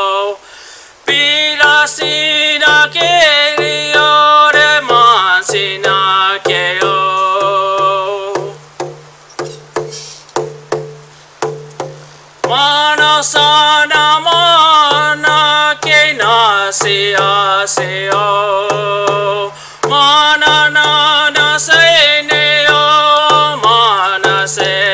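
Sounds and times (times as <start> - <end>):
man chanting in held notes: 0.0 - 10.3, 11.8 - 24.9
steady drumbeat: 1.1 - 24.9.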